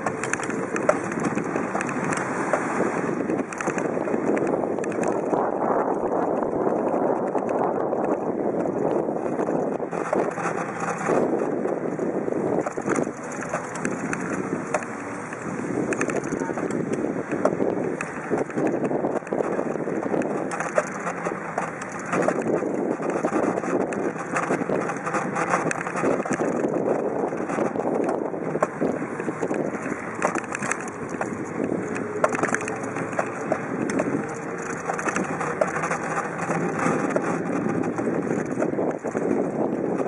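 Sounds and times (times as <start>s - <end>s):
bicycle clicks and rattles: 0.0s - 40.0s
wind buffeting microphone: 0.0s - 40.0s.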